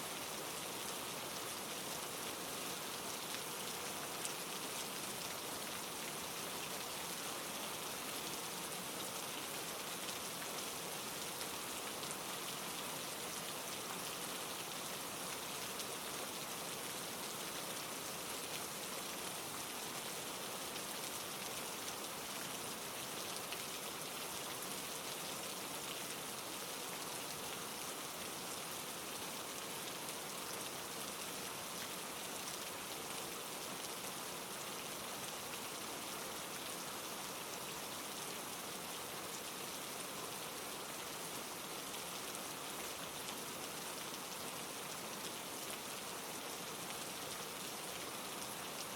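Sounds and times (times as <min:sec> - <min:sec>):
rain pattering on a surface: 0:00.1 - 0:48.9.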